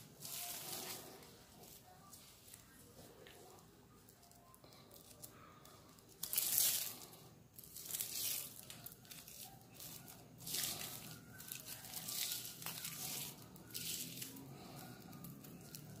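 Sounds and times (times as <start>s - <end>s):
dry strips rustling: 0.0s - 16.0s.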